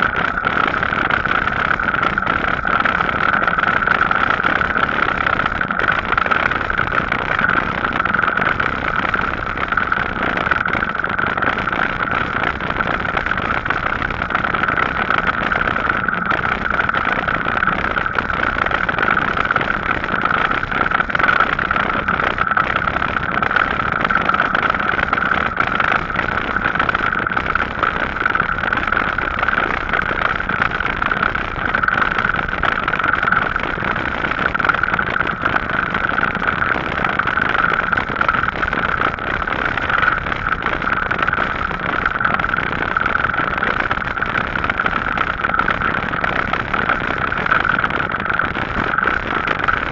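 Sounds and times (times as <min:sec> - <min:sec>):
mid-pitched hum: 0:00.0 - 0:49.9.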